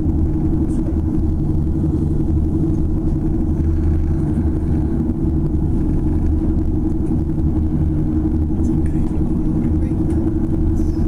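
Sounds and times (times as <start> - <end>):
cable car cabin rumble: 0.0 - 11.0.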